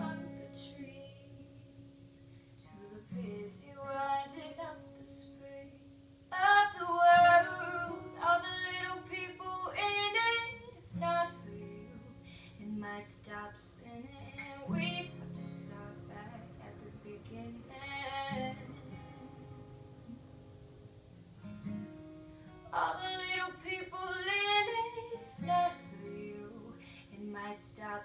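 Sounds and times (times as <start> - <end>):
girl singing: 0.0 - 2.0, 2.6 - 19.8, 22.6 - 28.0
acoustic guitar: 0.0 - 28.0.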